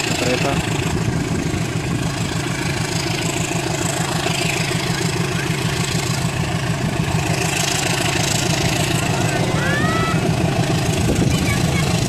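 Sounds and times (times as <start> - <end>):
diesel locomotive engine throbbing: 0.0 - 12.0.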